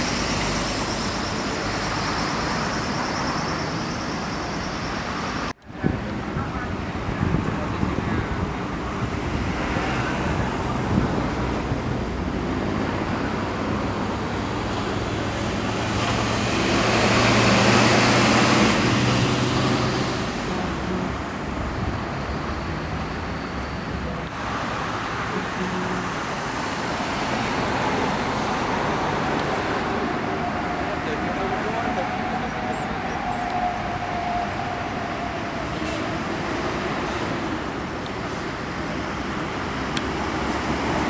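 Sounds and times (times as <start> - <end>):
heavy vehicle engine drone: 0.0 - 41.0
road traffic passing: 0.0 - 41.0.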